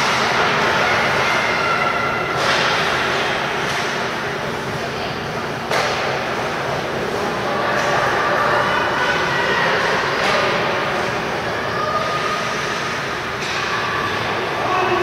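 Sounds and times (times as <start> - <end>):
spectators' voices: 0.0 - 15.0.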